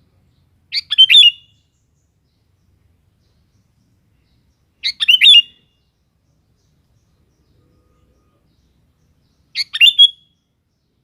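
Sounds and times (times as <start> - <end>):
bird singing: 0.0 - 11.0.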